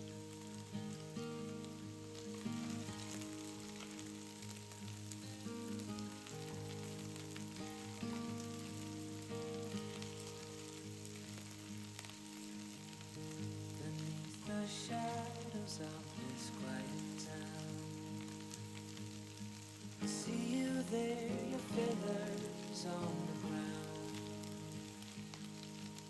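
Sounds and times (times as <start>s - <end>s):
food sizzling in oil: 0.0s - 26.0s
soft instrumental music: 0.0s - 26.0s.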